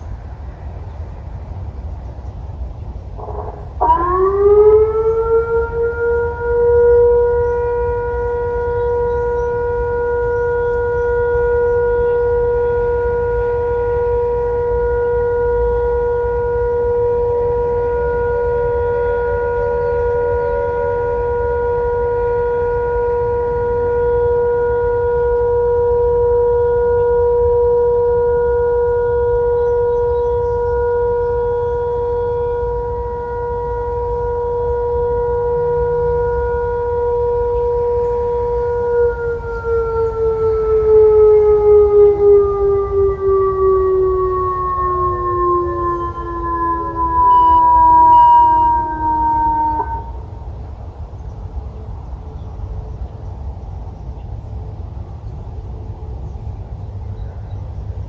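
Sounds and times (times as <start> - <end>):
low wind rumble: 0.0 - 58.0
electronic warning siren steady tone: 3.1 - 50.9.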